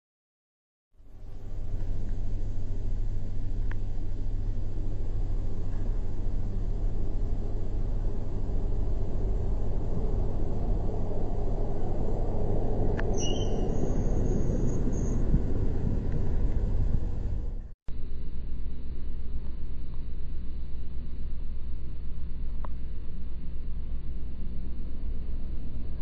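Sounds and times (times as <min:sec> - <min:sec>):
low outdoor background rumble: 0:01.0 - 0:26.0.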